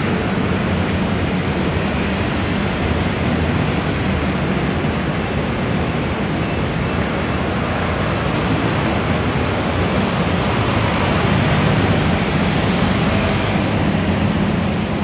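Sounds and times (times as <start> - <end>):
roar of scooter traffic: 0.0 - 15.0.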